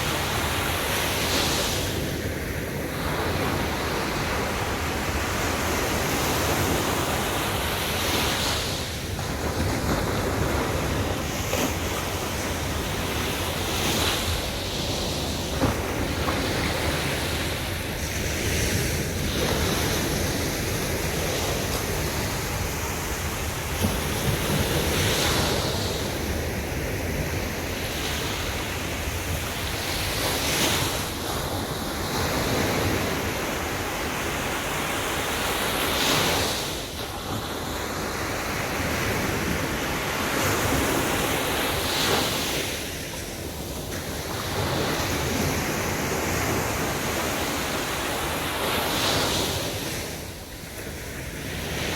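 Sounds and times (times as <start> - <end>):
sea waves breaking on beach: 0.0 - 51.9.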